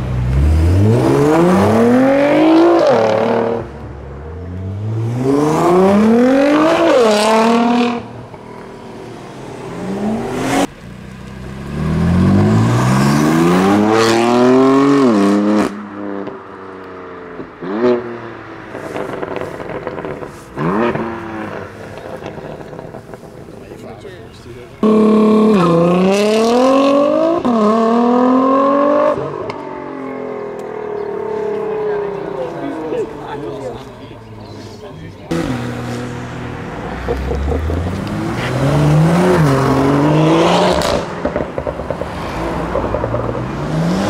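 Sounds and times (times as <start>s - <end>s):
car engines accelerating hard: 0.0s - 44.0s.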